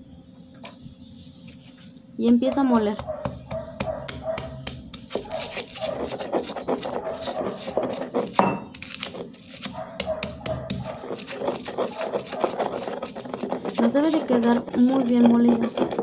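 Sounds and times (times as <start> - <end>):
stone pestle grinding in mortar: 2.3 - 16.0.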